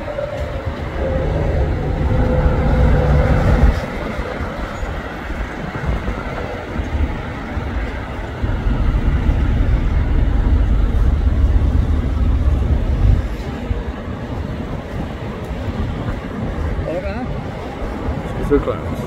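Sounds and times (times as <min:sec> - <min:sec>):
jet engines roaring: 0:00.0 - 0:19.0
wind rumbling on microphone: 0:00.0 - 0:19.0.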